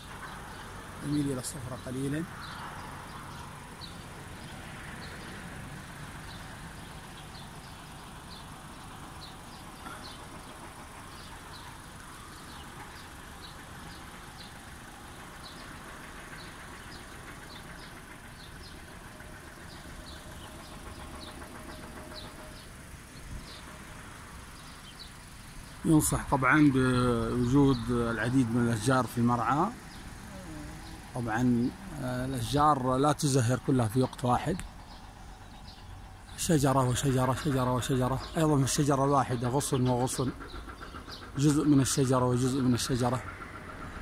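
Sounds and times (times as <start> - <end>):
honeybees humming: 0.0 - 44.0.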